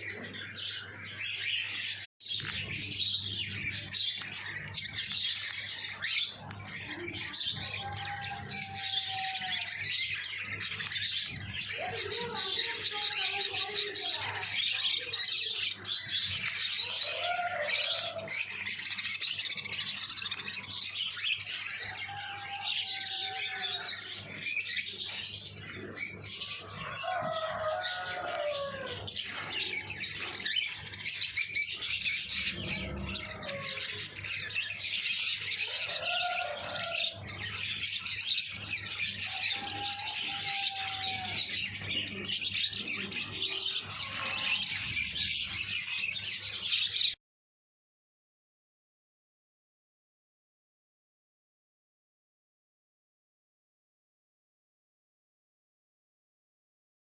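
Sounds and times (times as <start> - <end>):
cockatiels chirping and chattering: 0.0 - 47.2.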